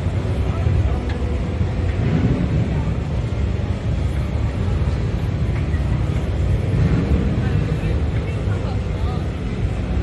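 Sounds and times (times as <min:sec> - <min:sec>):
crowd hubbub in a large hall: 0:00.0 - 0:10.0
low rumble: 0:00.0 - 0:10.0.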